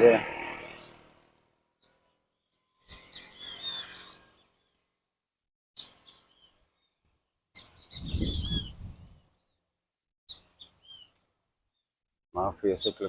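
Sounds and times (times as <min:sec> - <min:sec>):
birds chirping: 0:00.0 - 0:05.2, 0:05.8 - 0:13.0.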